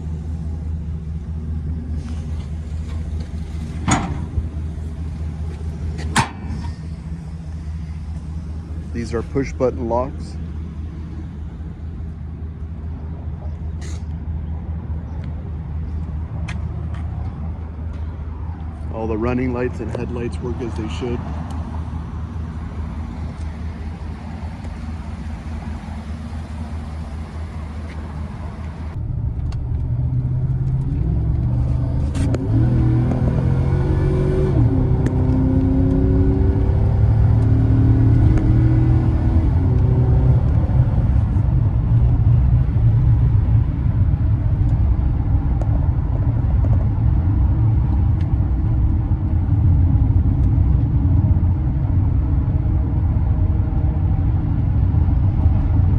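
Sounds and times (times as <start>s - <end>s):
truck engine accelerating: 0.0s - 55.9s.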